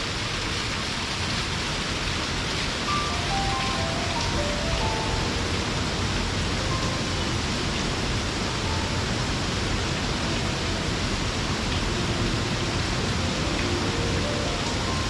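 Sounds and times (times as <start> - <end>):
waterfall rushing onto rock: 0.0 - 15.0.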